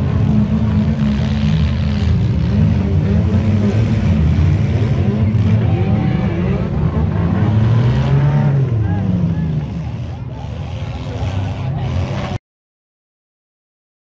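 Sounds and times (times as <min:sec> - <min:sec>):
car engines revving: 0:00.0 - 0:12.4
crowd voices: 0:00.0 - 0:12.4.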